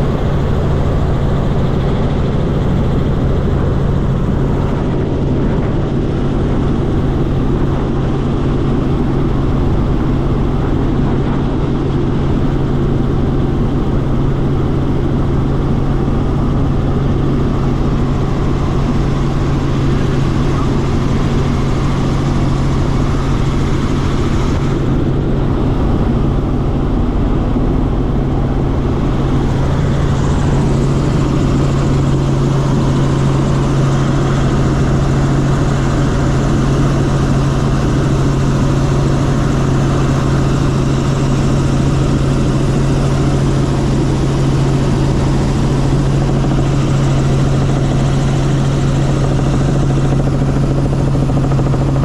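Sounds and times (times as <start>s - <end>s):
helicopter engine and rotors drone: 0.0s - 52.0s.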